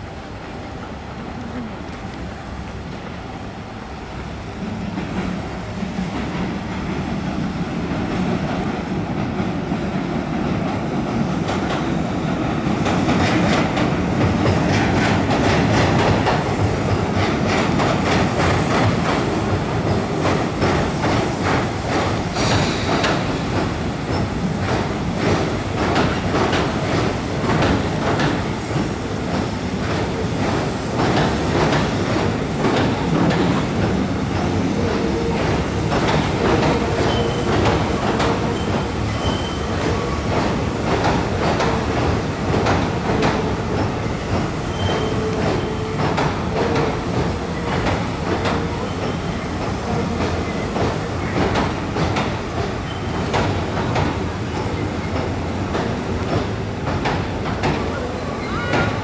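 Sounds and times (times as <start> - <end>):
train wheels clattering on bridge: 1.6 - 59.0.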